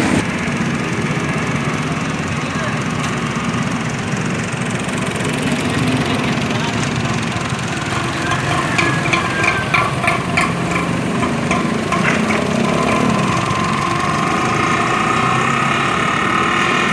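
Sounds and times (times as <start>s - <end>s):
small motorcycle engines: 0.0s - 16.9s.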